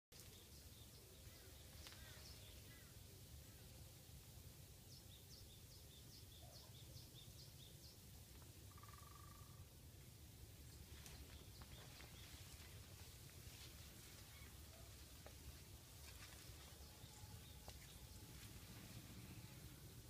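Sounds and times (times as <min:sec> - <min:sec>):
faint birds chirping: 0:00.2 - 0:20.0
low steady rumble: 0:00.3 - 0:20.0.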